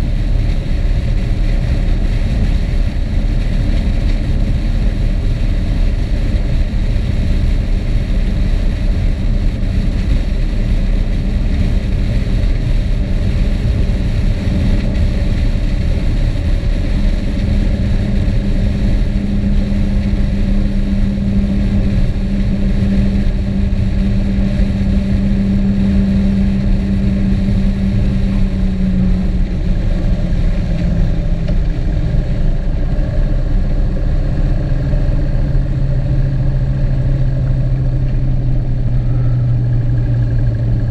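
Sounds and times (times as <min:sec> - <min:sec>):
road and wind rumble: 0:00.0 - 0:40.9
vehicle engine drone: 0:00.0 - 0:40.9.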